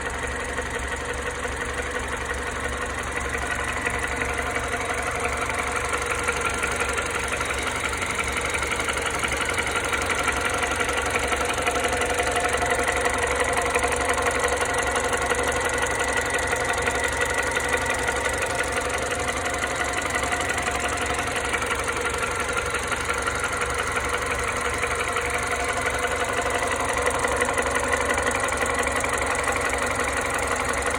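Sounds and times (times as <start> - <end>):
car engine idling with rattle: 0.0 - 30.9.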